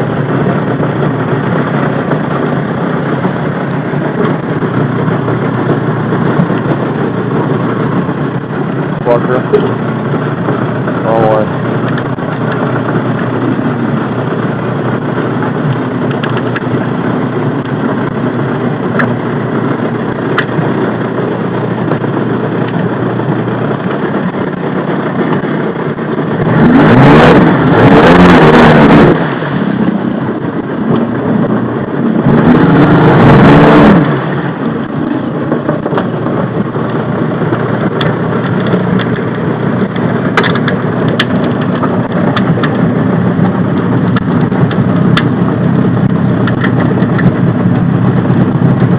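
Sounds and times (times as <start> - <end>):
jet ski engine running: 0.0 - 48.9.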